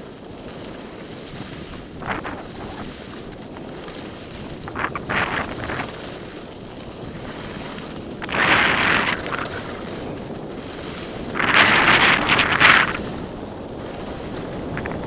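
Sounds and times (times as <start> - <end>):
skis scraping in hissing turns: 0.0 - 15.0
skis sliding on packed snow: 0.0 - 15.0
wind rushing over microphone: 0.0 - 15.0.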